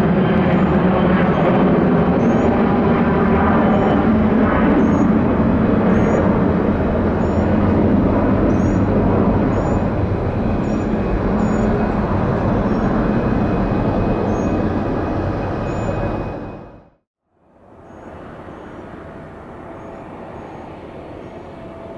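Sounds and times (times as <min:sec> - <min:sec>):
jet engines roaring: 0:00.0 - 0:17.0, 0:18.0 - 0:21.9.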